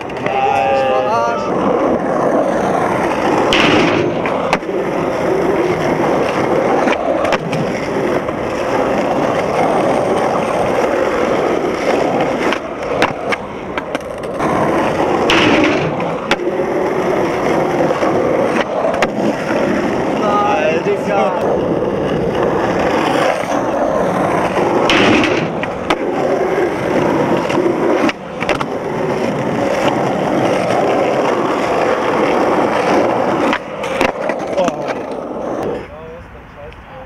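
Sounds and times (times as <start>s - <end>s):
skateboard clacking and knocking: 0.0s - 35.8s
skateboard wheels rolling on asphalt: 0.0s - 37.0s.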